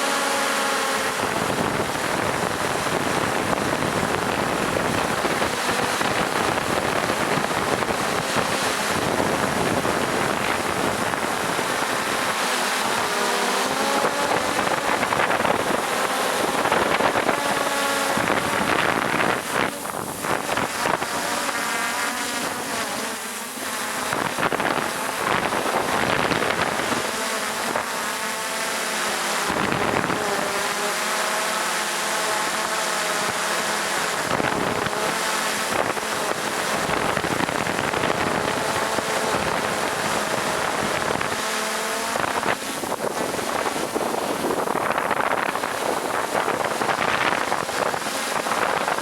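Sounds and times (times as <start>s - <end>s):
motor-driven propellers running: 0.0s - 49.0s
wind buffeting microphone: 0.9s - 28.1s, 29.4s - 30.8s, 33.2s - 49.0s.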